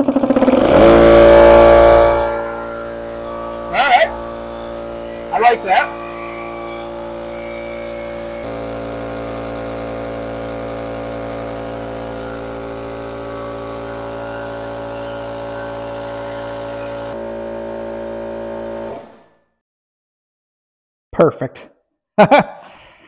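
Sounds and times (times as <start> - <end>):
electric air compressor running: 0.0 - 19.4.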